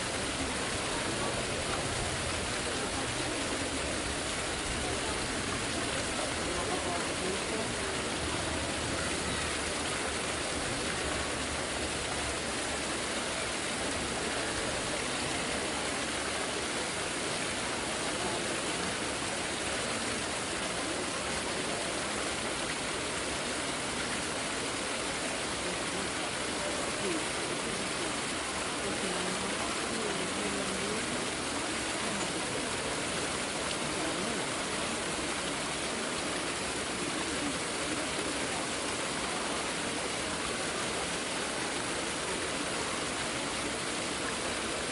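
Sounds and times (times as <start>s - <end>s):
distant murmuring voices: 0.1s - 44.9s.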